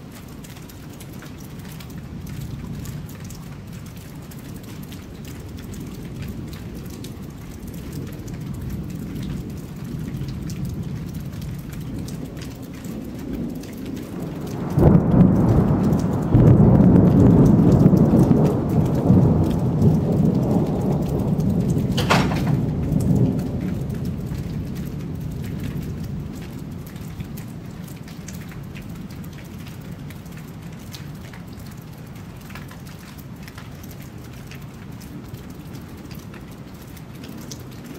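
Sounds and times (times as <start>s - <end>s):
steady rain: 0.0s - 37.9s
thunder crack and rumble: 1.2s - 31.7s.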